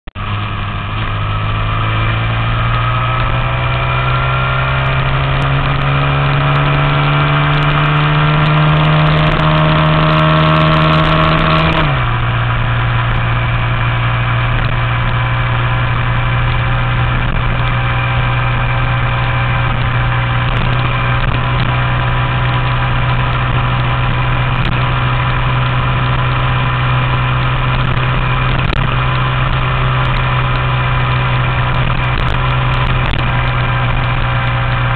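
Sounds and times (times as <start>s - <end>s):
motorbike engine revving: 0.2s - 34.9s.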